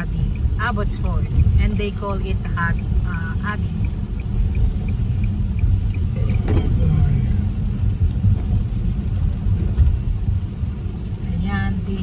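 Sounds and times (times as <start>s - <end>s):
car driving rumble from inside: 0.0s - 12.0s
light regular ticking: 0.0s - 12.0s.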